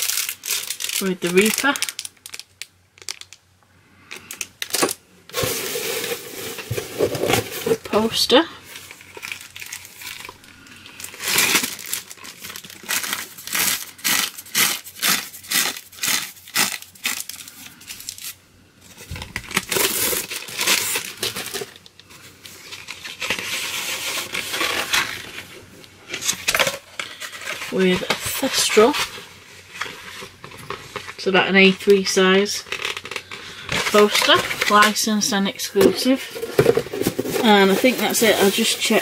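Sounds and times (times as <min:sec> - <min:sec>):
wrapping crinkling and tearing: 0:00.0 - 0:03.4, 0:04.1 - 0:35.2, 0:36.2 - 0:39.0.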